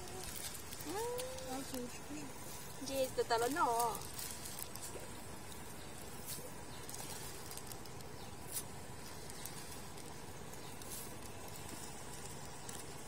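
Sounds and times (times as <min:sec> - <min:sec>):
pellets ticking onto water: 0:00.0 - 0:02.2, 0:02.8 - 0:13.0
faint outdoor hiss: 0:00.0 - 0:13.0.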